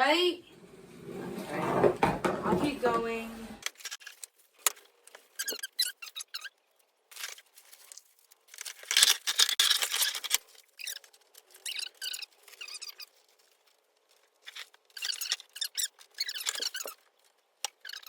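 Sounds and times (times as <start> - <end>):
rustling and scraping: 0.4 - 18.0.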